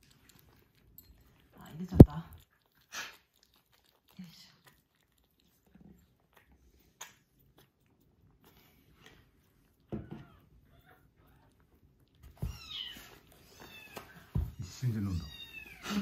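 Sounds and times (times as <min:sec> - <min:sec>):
kittens lapping milk: 0:00.0 - 0:16.0.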